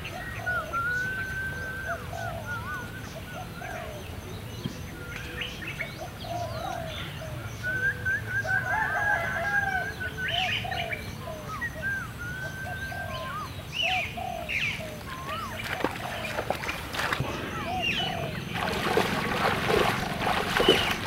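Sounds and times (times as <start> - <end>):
birds chirping and whistling: 0.0 - 21.0
long held bird calls: 0.0 - 21.0.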